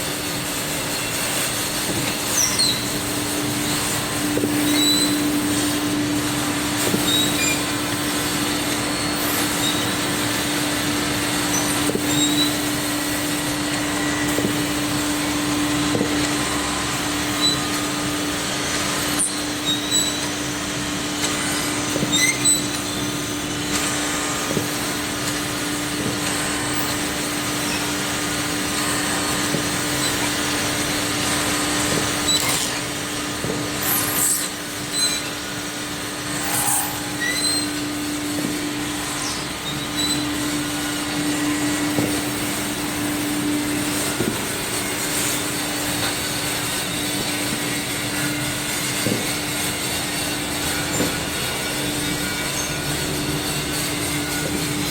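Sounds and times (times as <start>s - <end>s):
machine motor hum and whir: 0.0s - 54.9s.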